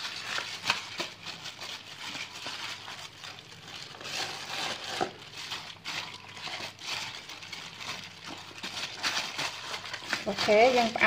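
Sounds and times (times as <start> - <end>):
plastic glove crinkling: 0.0 - 11.0.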